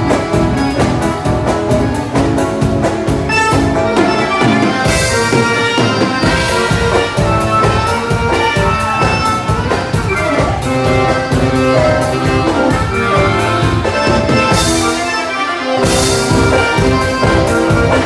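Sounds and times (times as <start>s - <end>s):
live dance band playing: 0.0s - 18.0s.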